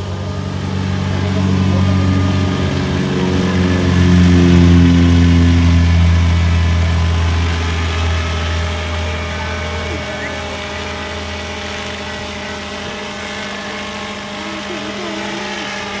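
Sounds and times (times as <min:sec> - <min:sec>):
model helicopter engine running: 0:00.0 - 0:16.0.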